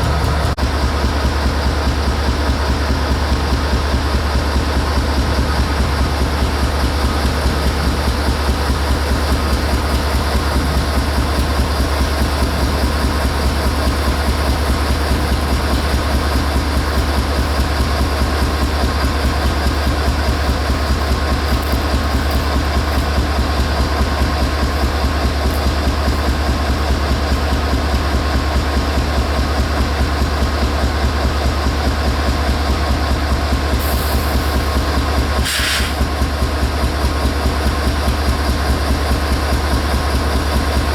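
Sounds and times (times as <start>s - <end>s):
diesel locomotive idling: 0.0s - 40.9s.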